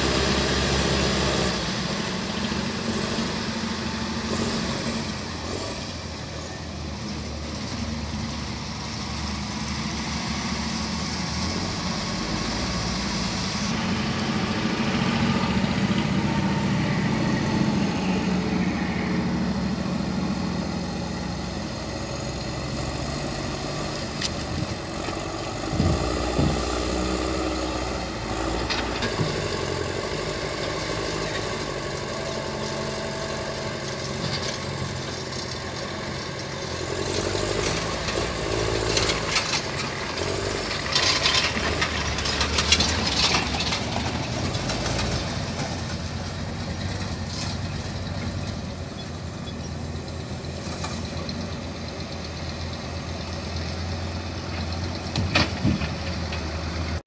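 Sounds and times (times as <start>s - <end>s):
wheel loader diesel engine: 0.0s - 57.0s.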